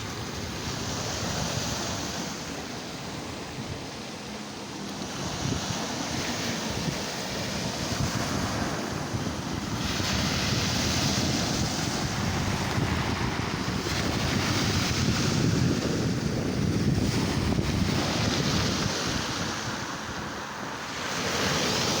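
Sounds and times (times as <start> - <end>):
wind buffeting microphone: 0.0 - 4.4, 5.0 - 22.0
surf breaking on beach: 0.0 - 22.0.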